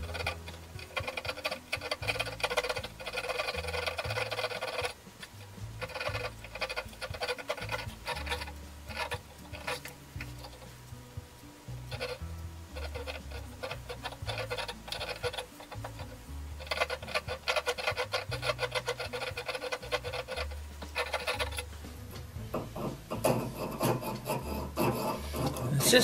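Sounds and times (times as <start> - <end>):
background music: 0.0 - 26.0
needle file scraping threads: 0.0 - 26.0.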